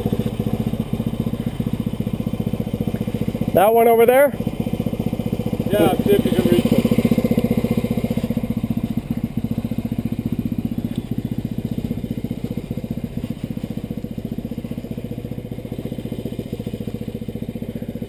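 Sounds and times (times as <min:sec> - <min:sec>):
single-cylinder engine idling: 0:00.0 - 0:18.0.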